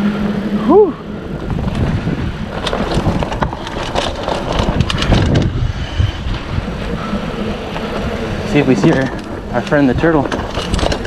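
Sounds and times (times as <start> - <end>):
bike tyre rumble on dirt: 0.0 - 11.0
wind on microphone: 0.0 - 11.0
bike clicks and rattles: 1.1 - 11.0.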